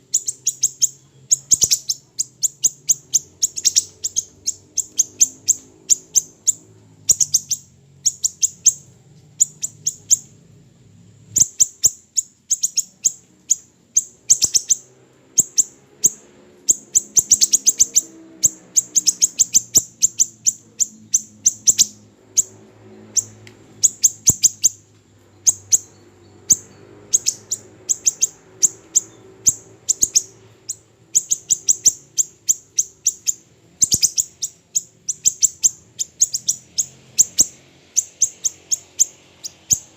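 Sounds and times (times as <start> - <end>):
faint low hum: 0.0 - 39.9
songbird chirping: 0.0 - 39.9.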